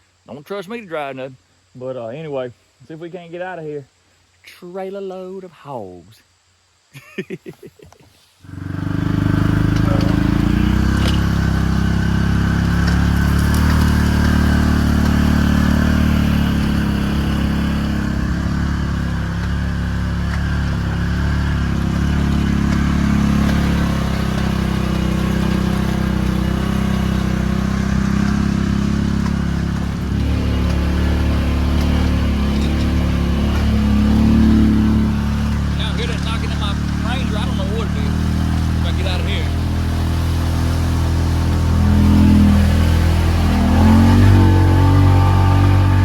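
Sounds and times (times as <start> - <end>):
vehicle engine running: 8.4 - 46.0.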